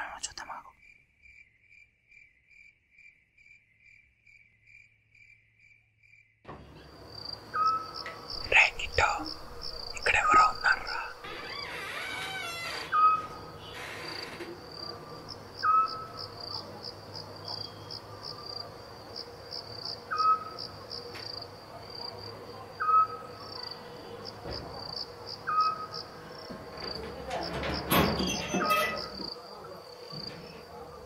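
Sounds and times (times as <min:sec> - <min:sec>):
crickets chirping: 0:00.0 - 0:31.0
rising insect call: 0:00.8 - 0:27.0.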